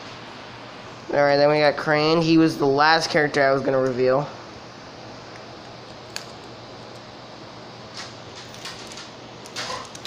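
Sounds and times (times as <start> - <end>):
steady room hum: 0.0 - 10.0.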